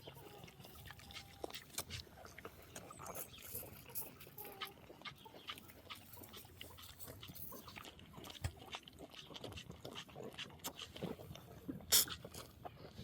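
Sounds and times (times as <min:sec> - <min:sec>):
calf sucking from bottle: 0:00.0 - 0:13.0.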